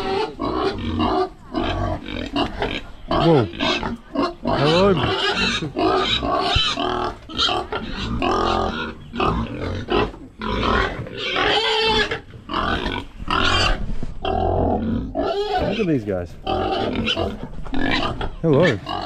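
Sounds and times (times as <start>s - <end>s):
pigs squealing: 0.0s - 19.0s.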